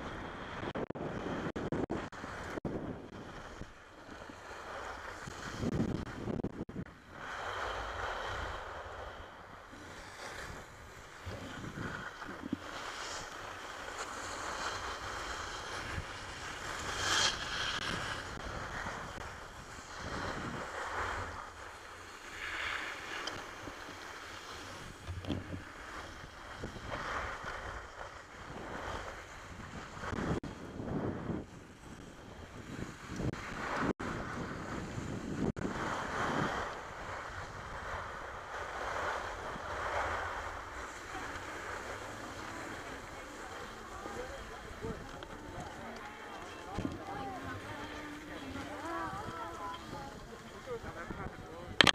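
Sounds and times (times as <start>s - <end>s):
wind buffeting microphone: 0.0s - 51.9s
skis scraping over snow: 3.2s - 6.4s, 7.0s - 51.9s.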